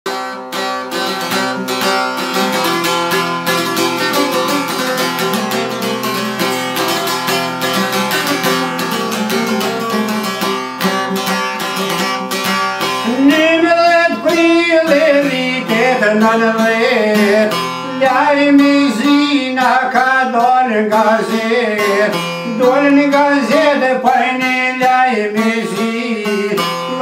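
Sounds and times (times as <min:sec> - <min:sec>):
lute strummed rapidly: 0:00.1 - 0:27.0.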